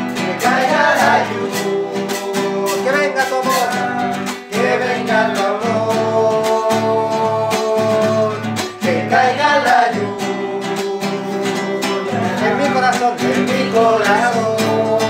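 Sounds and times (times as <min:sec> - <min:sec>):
man singing: 0:00.0 - 0:15.0
strummed acoustic guitar: 0:00.0 - 0:15.0.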